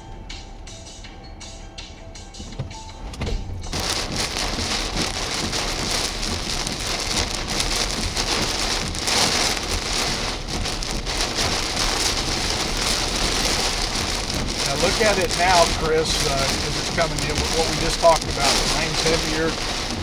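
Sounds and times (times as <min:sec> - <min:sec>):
low thunder rumble: 0:02.8 - 0:20.0
heavy rain hissing: 0:03.6 - 0:20.0.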